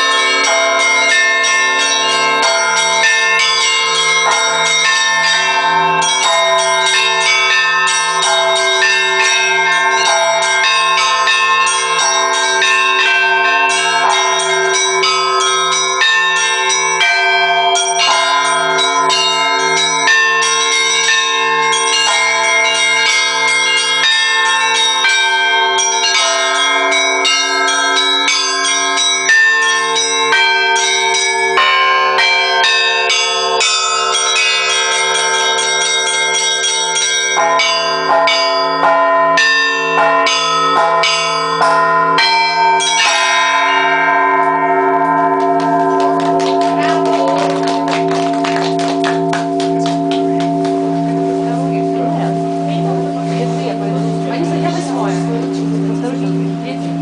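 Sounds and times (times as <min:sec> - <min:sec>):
church bells pealing: 0:00.0 - 0:57.0
low bell steady pulse: 0:00.0 - 0:57.0
small bells in quick patterns: 0:00.0 - 0:57.0.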